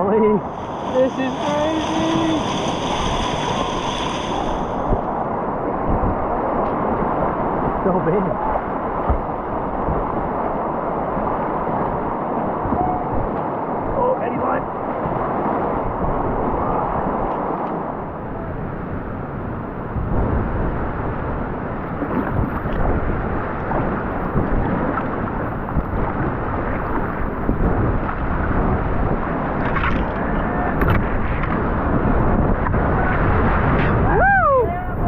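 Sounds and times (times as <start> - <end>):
whitewater rushing and churning: 0.0 - 35.0
wind buffeting on microphone: 0.0 - 35.0.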